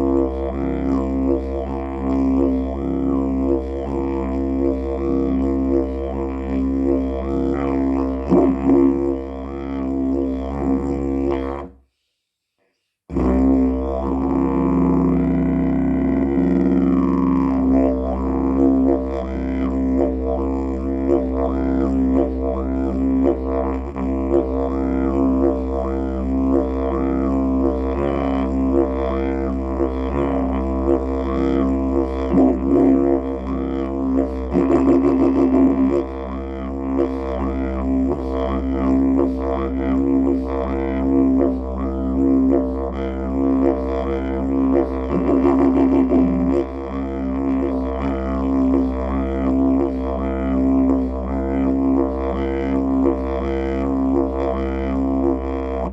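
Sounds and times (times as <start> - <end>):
didgeridoo drone: 0.0 - 11.7, 13.1 - 55.9.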